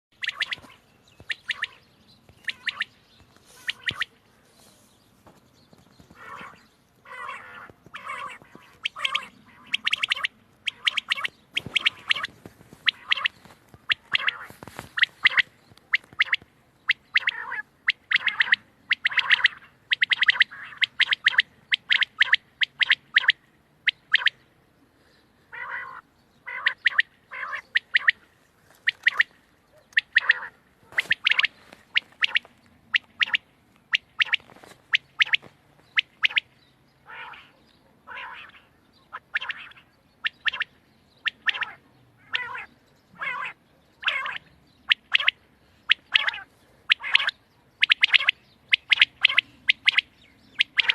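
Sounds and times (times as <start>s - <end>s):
quail calling: 0.1s - 4.7s, 6.0s - 24.4s, 25.5s - 50.9s.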